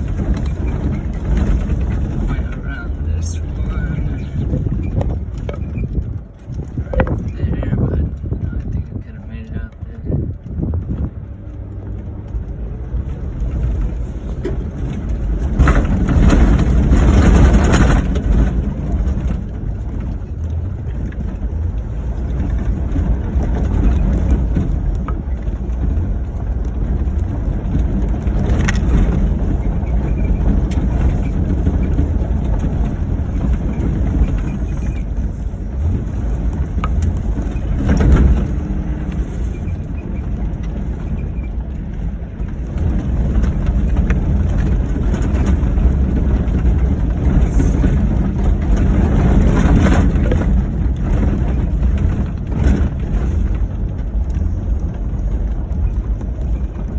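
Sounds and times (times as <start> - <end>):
car engine and road rumble: 0.0 - 56.9
tyre and suspension noise: 0.0 - 56.9.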